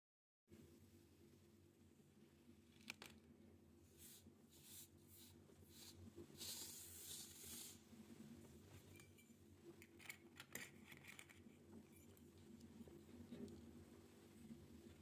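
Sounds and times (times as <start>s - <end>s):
low steady hum: 0.5s - 15.0s.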